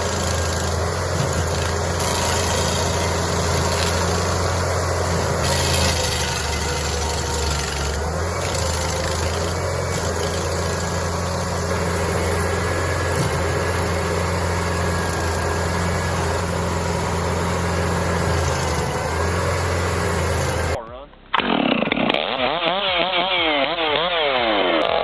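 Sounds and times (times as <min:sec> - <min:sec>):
machine engine running: 0:00.0 - 0:25.0.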